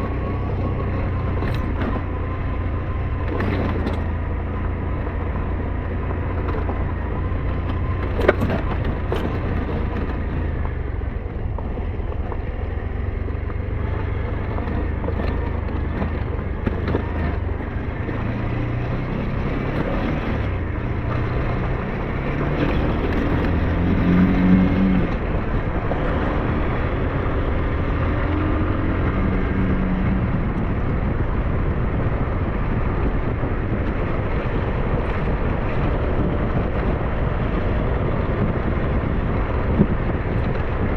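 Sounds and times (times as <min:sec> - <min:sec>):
motorcycle engine: 0:00.0 - 0:40.9
wind and road noise: 0:00.0 - 0:40.9.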